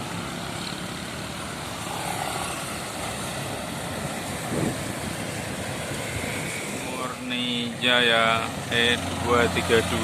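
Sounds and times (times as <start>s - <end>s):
bus driving past: 0.0s - 10.0s.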